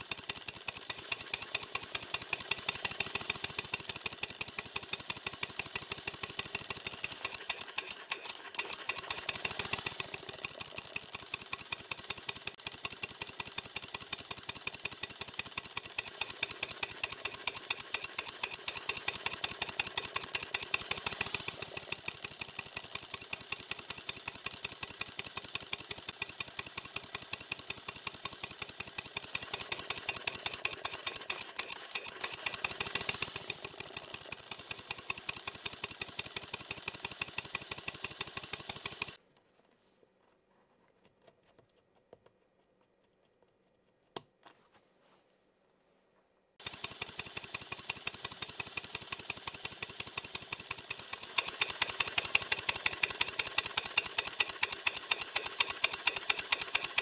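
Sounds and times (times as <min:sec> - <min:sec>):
model steam engine puffing and clattering: 0:00.0 - 0:39.2, 0:46.6 - 0:57.0.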